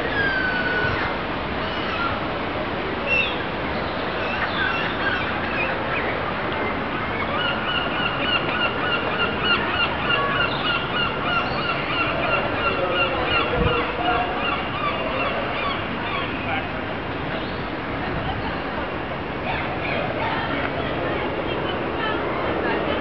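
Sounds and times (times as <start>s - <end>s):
steady background noise: 0.0s - 23.0s.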